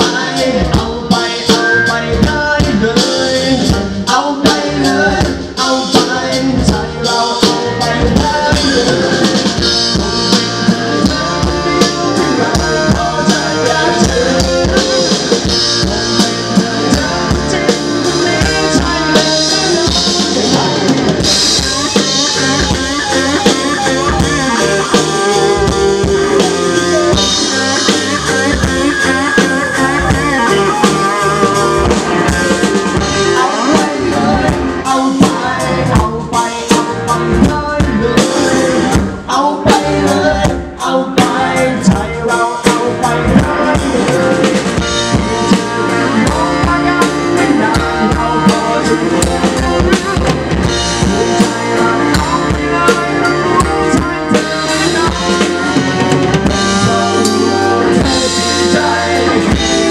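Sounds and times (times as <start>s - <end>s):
drum kit: 0.0s - 59.9s
electric guitar: 0.0s - 59.9s
live rock band playing: 0.0s - 59.9s.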